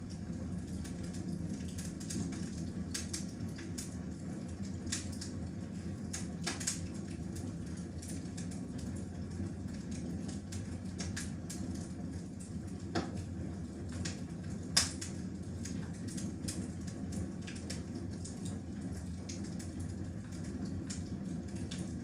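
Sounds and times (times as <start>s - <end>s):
low roar of flames: 0.0s - 22.0s
wood fire crackling: 0.0s - 22.0s.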